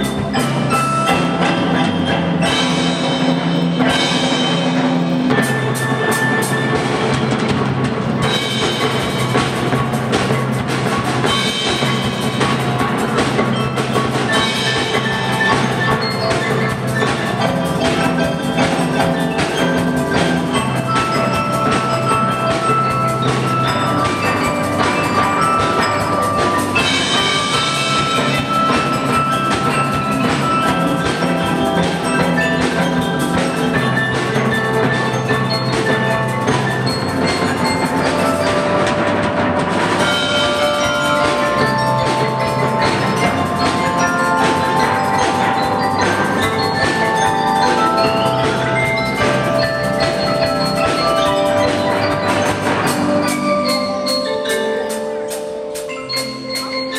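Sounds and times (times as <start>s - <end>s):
drums: 0.0s - 56.9s
marimba and bells melody: 0.0s - 56.9s.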